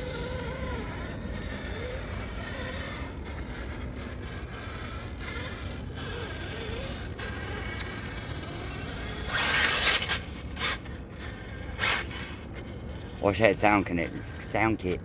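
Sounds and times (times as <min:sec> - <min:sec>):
toy truck motor whining: 0:00.0 - 0:15.0.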